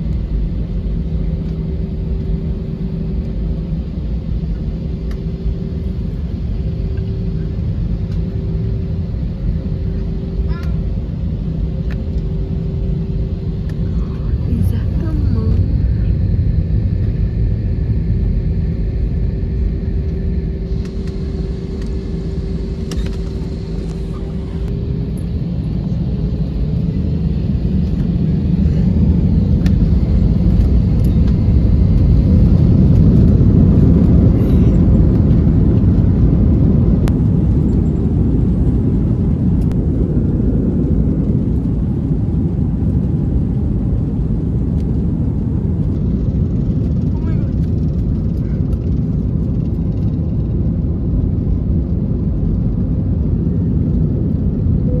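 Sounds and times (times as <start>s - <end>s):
jet engines at takeoff power: 0.0s - 55.0s
wheels rumbling on runway: 0.0s - 55.0s.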